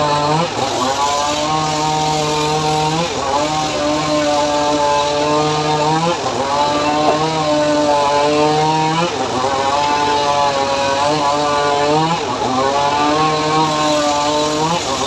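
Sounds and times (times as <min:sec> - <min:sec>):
circular saw ripping a log: 0:00.0 - 0:15.0.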